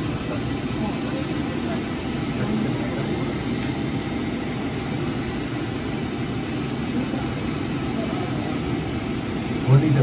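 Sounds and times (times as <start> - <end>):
high engine whine: 0.0 - 10.0
jet engine rumble: 0.0 - 10.0.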